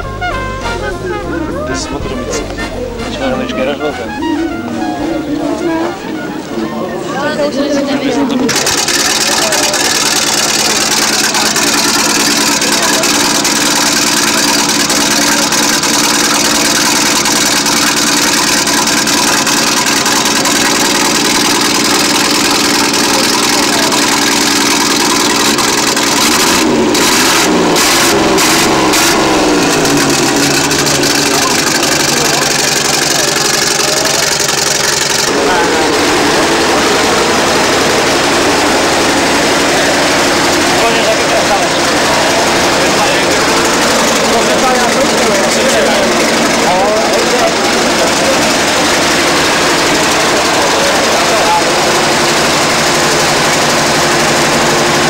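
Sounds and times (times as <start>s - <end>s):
racing car engine idling and revving: 0.0s - 55.0s.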